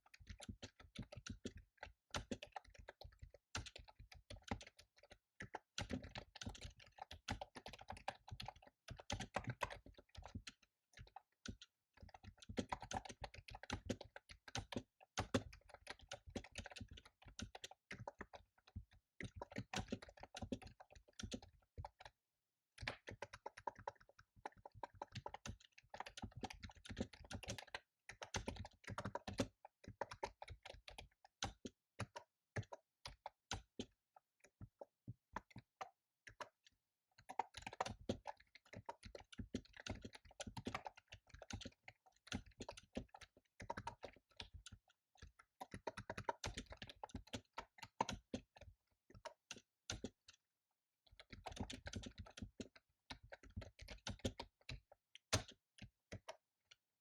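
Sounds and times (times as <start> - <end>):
fast typing on keyboard: 0.0 - 22.2, 22.8 - 57.0.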